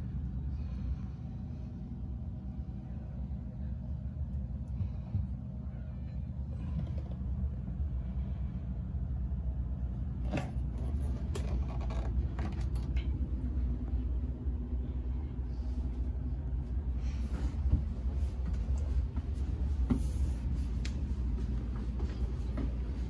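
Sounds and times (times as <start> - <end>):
boat machinery rumble: 0.0 - 23.0.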